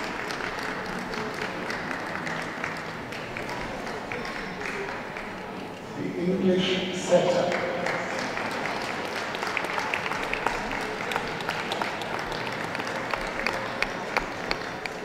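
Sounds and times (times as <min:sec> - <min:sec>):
audience applauding: 0:00.0 - 0:05.8, 0:06.6 - 0:15.0.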